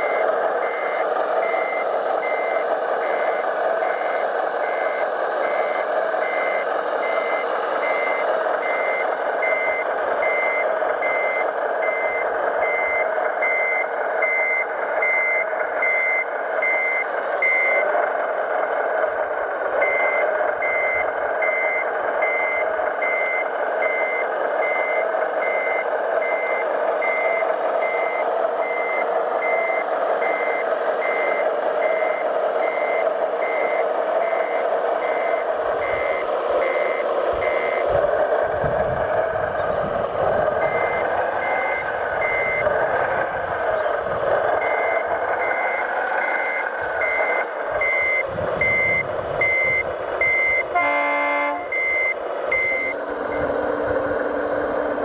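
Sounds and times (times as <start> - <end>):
high reversing beeps: 0.0 - 18.6, 19.7 - 38.0, 39.3 - 43.6, 44.5 - 55.0.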